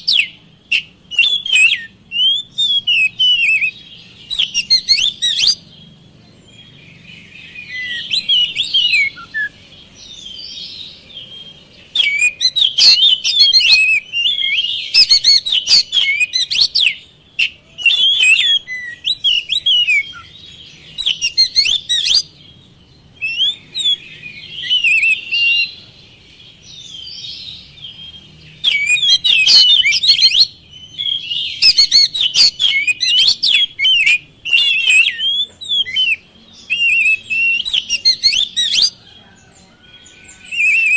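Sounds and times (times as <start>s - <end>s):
quiet bird twittering: 0.0s - 40.9s
songbird whistles and trills: 0.0s - 40.9s.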